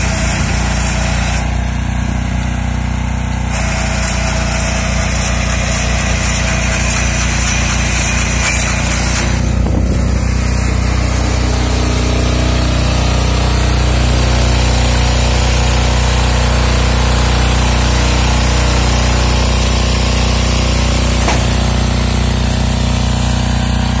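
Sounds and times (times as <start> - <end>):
single-cylinder engine running: 0.0 - 24.0.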